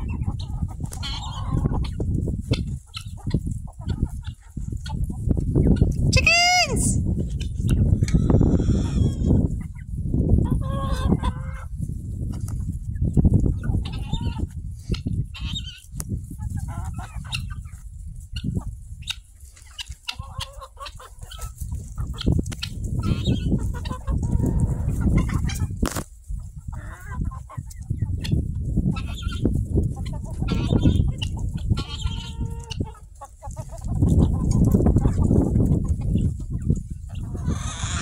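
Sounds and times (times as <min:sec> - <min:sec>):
chickens clucking and calling: 0:00.0 - 0:38.0.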